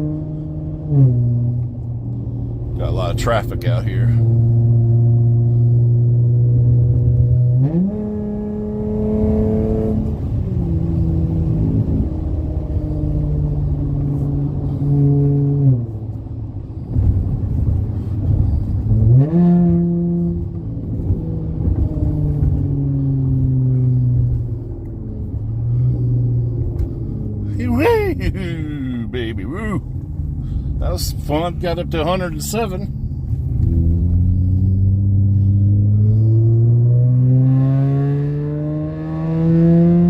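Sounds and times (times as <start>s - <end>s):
car engine accelerating hard: 2.7s - 40.0s.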